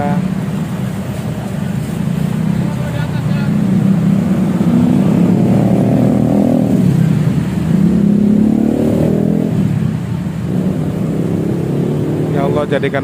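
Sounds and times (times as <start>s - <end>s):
vehicle engines revving: 0.0s - 13.0s.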